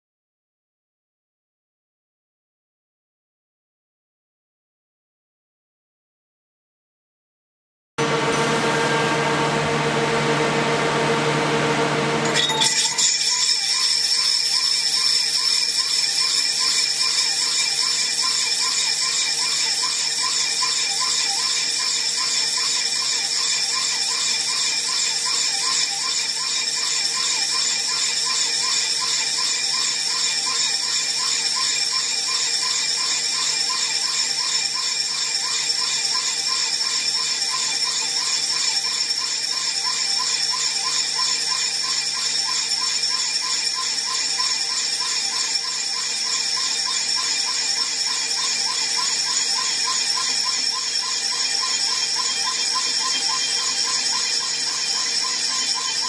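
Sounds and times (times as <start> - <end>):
lathe cutting whine: 8.0 - 56.0.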